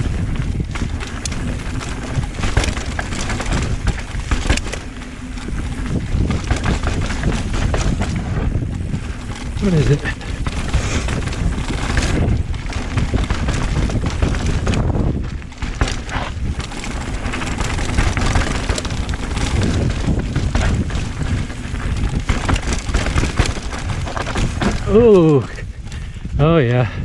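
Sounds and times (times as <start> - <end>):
bike rattling over bumps: 0.0 - 27.0
tyres rolling on dirt: 0.0 - 27.0
wind buffeting microphone: 0.0 - 27.0.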